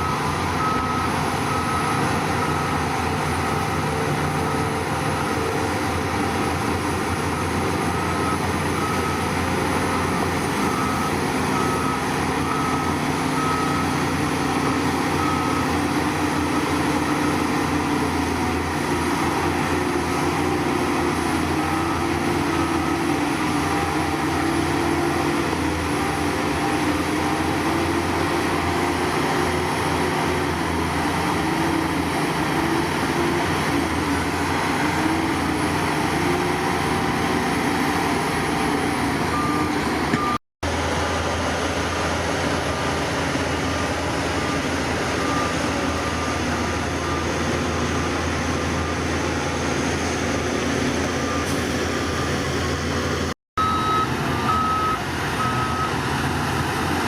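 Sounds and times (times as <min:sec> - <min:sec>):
reversing alarm beeping: 0:00.0 - 0:40.4, 0:45.0 - 0:49.2, 0:53.6 - 0:56.0
heavy diesel machinery running: 0:00.0 - 0:57.0.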